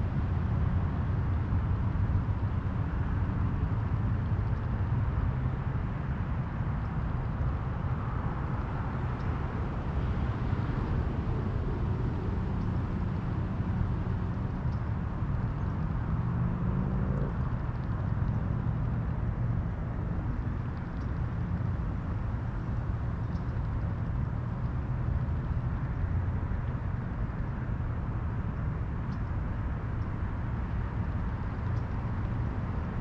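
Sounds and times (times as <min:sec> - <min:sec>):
distant traffic rumble: 0:00.0 - 0:33.0
engine hum: 0:00.0 - 0:33.0.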